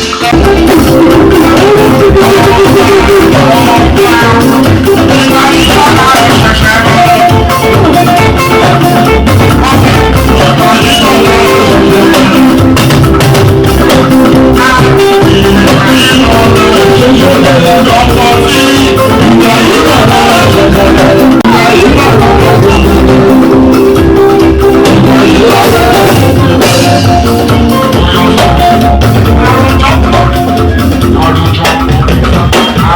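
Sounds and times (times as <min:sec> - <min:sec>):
drum kit beat: 0:00.0 - 0:32.9
electric guitar: 0:00.0 - 0:32.9
person singing: 0:00.0 - 0:32.9.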